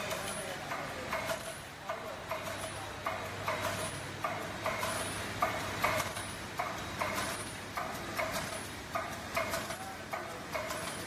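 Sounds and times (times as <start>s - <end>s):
rhythmic mechanical clacking: 0.0s - 11.0s.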